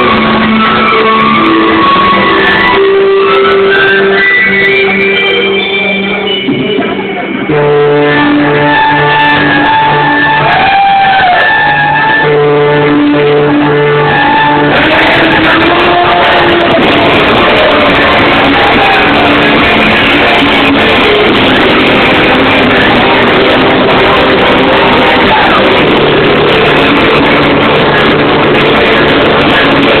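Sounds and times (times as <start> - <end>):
live metal band playing: 0.0 - 30.0.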